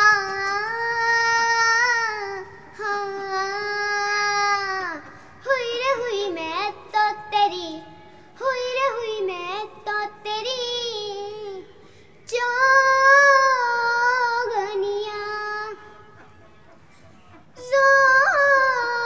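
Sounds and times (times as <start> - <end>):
girl singing unaccompanied: 0.0 - 16.1, 17.6 - 19.0.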